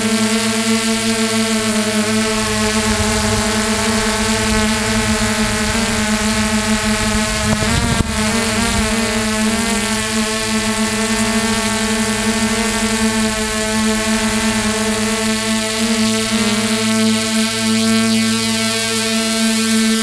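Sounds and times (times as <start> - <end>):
drone propellers whining: 0.0 - 19.8.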